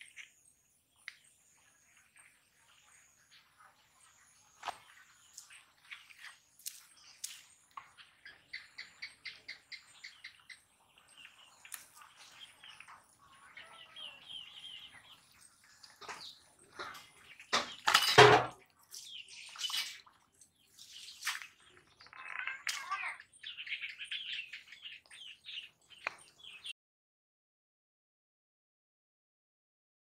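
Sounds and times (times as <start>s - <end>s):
small birds chirping: 0.0s - 26.8s.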